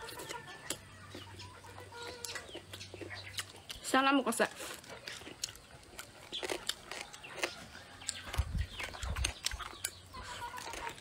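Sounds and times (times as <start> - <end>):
chewing crunchy salad: 0.0 - 11.0.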